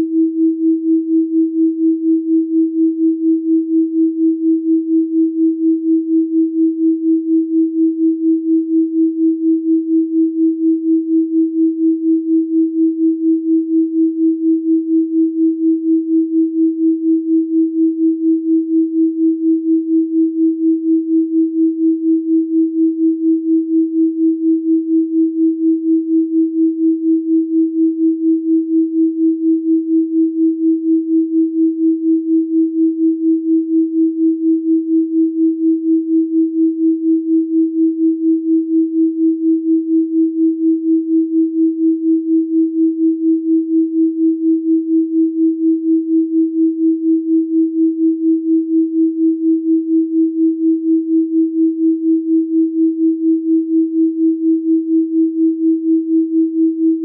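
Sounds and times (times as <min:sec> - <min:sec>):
pulsing sine tone: 0:00.0 - 0:57.0.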